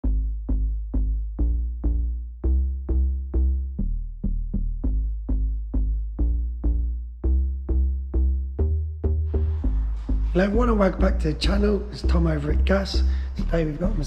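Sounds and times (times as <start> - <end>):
electronic music with deep bass beat: 0.0 - 14.0.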